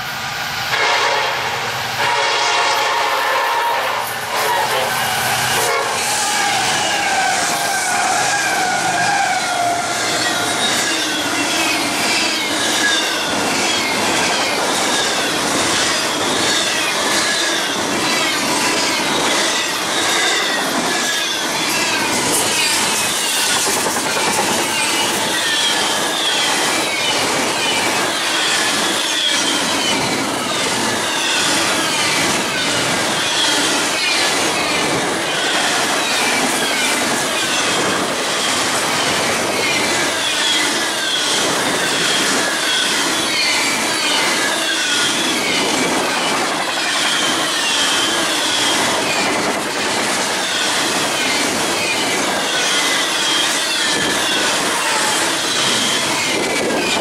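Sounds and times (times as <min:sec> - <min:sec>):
wheels squealing: 0:04.9 - 0:57.0.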